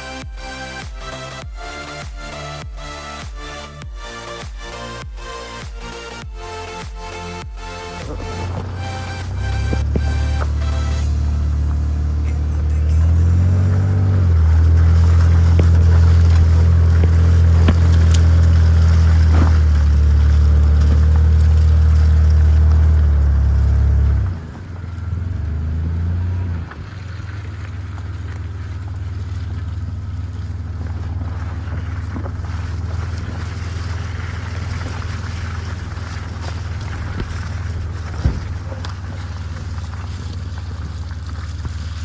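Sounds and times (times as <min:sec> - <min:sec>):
atv engine running: 0:07.3 - 0:42.0.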